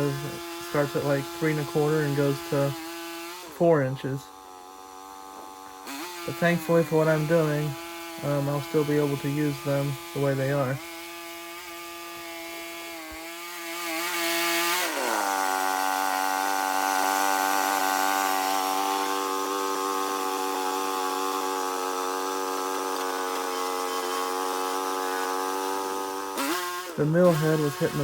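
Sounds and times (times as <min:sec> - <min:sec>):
saw cutting through log: 0:00.0 - 0:28.0
sawmill engine running: 0:00.0 - 0:28.0.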